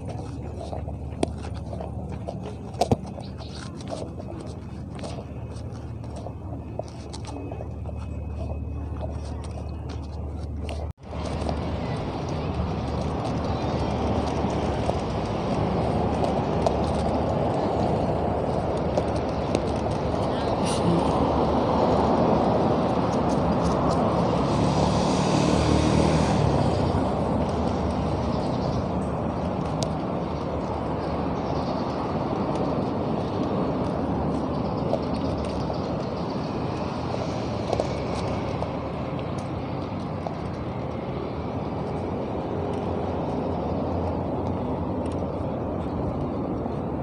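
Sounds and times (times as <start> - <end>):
bicycle road noise: 0.0 - 47.0
rushing wind: 0.0 - 47.0
traffic rumble: 0.0 - 47.0
vehicle engine hum: 0.0 - 47.0.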